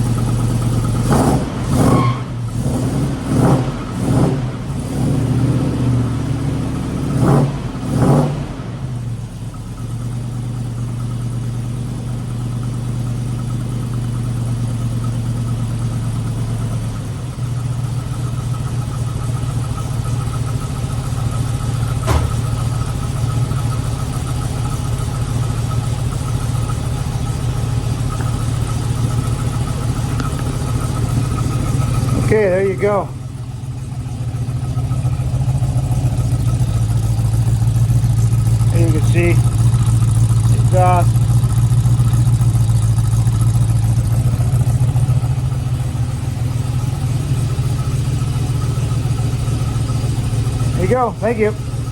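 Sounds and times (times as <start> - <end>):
car engine revving and idling: 0.0 - 51.9.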